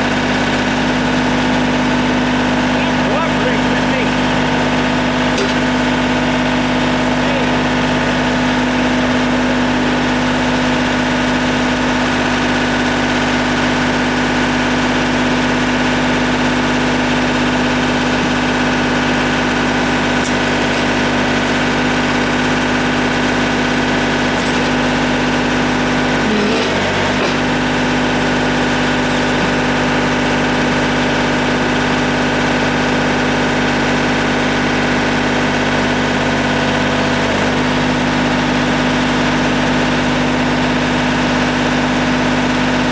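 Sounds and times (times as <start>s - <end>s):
diesel tractor engine idling: 0.0s - 42.9s.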